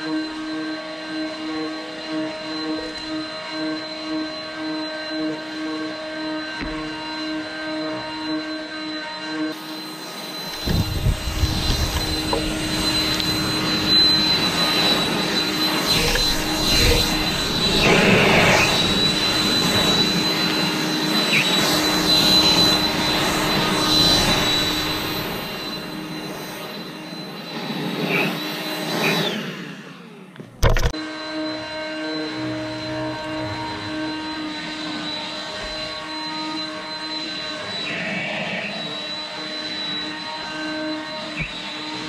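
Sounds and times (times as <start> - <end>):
leaf blower whining: 0.0 - 42.0.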